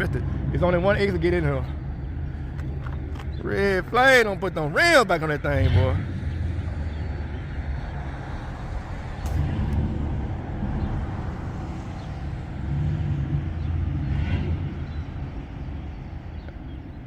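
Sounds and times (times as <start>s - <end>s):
deep engine rumble: 0.0s - 17.0s.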